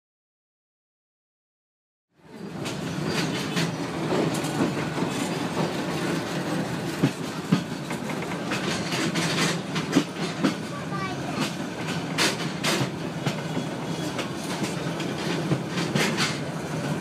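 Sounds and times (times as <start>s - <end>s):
train rumble and rattle: 2.2s - 17.0s
train wheels clacking over rail joints: 2.2s - 17.0s.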